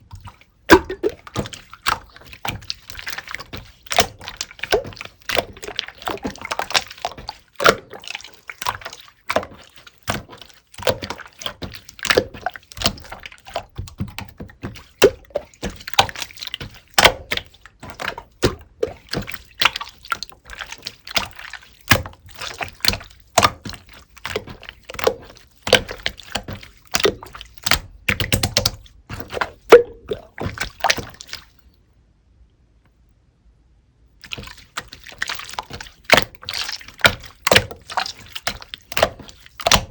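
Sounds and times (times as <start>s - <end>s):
slime squeezed by hand: 0.1s - 31.6s, 34.2s - 39.9s.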